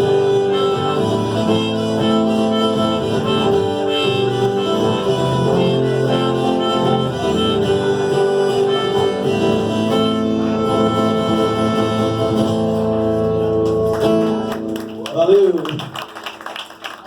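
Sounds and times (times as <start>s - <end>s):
instrumental music: 0.0s - 15.4s.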